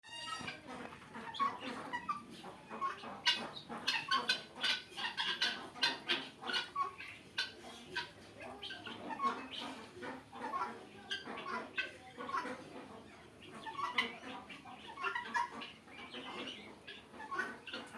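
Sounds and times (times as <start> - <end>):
guinea fowl calling: 0.1 - 17.9.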